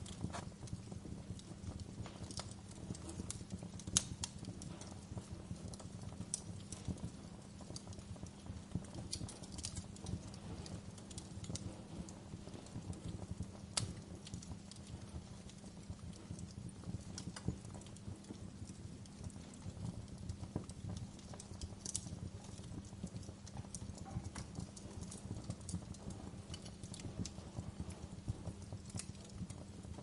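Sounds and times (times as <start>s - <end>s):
fire crackles and pops: 0.0s - 30.0s
fire rumbling: 0.0s - 30.0s.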